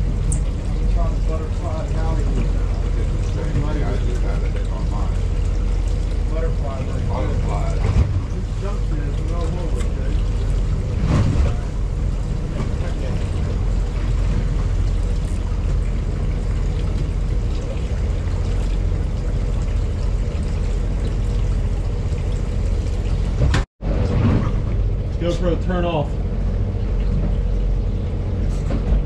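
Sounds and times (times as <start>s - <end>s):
boat engine idling: 0.0s - 29.0s.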